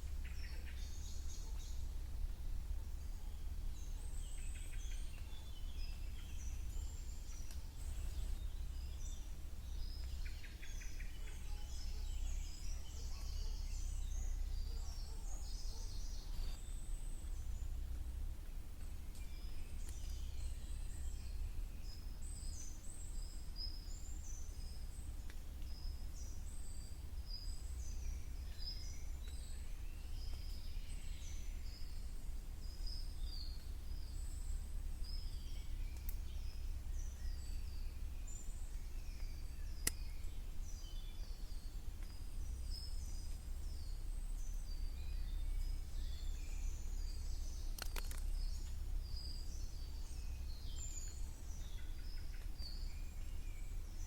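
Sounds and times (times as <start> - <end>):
birds chirping: 0.0 - 54.0
low wind rumble: 0.0 - 54.0.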